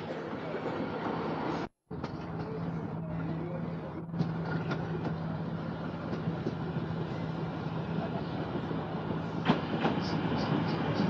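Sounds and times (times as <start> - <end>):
tram running on track: 0.0 - 11.0.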